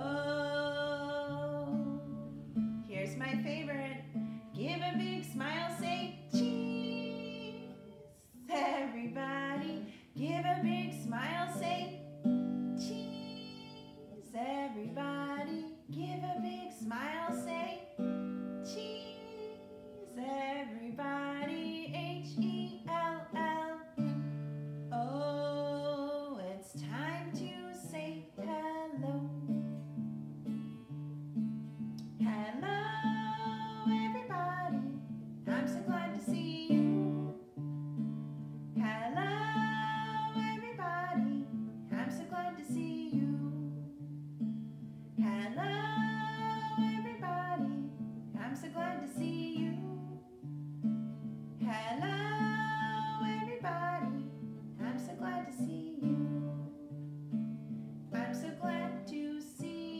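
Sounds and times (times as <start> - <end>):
woman singing: 0.0 - 31.0, 31.8 - 59.9
strummed acoustic guitar: 0.0 - 59.9.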